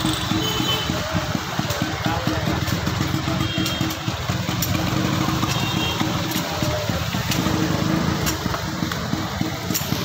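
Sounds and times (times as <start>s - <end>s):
street traffic: 0.0s - 10.0s
vehicle engine idling: 0.0s - 10.0s.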